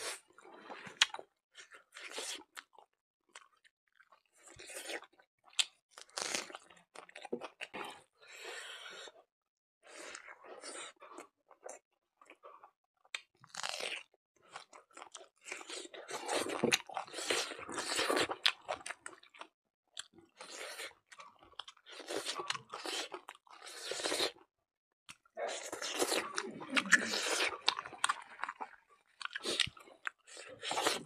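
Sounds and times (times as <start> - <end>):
person chewing crunchy food: 0.0 - 9.2, 9.8 - 24.5, 25.1 - 31.0.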